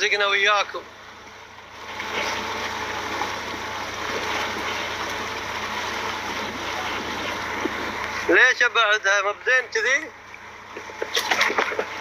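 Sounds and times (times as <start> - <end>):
speedboat motor and water rushing: 0.0 - 12.0.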